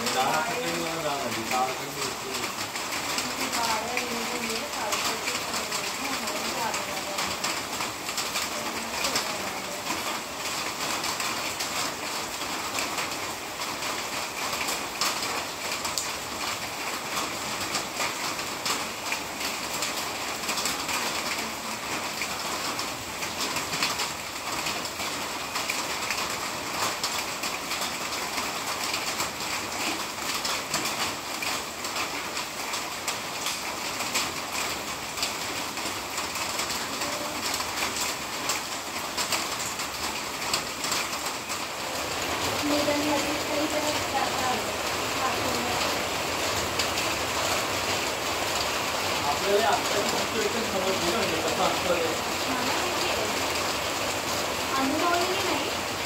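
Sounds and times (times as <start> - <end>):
heavy rain: 0.0 - 56.0
raindrops ticking close by: 0.0 - 56.0.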